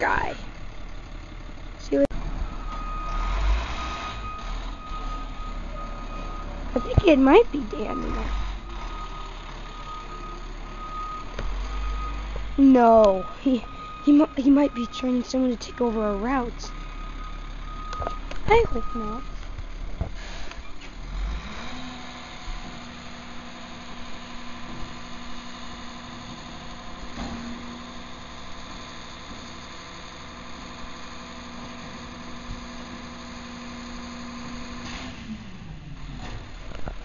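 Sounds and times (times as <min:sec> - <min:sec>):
garbage truck engine running: 0:00.0 - 0:37.0.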